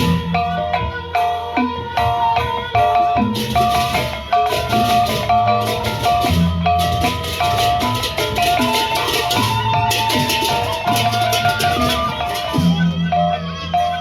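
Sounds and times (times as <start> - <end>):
large drums beating: 0.0 - 13.1
cymbals clashing: 0.0 - 14.0.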